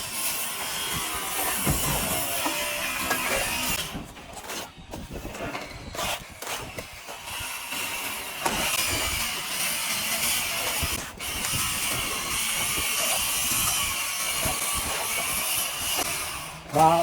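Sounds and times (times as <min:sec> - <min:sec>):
trowel scraping plaster: 0:00.0 - 0:17.0.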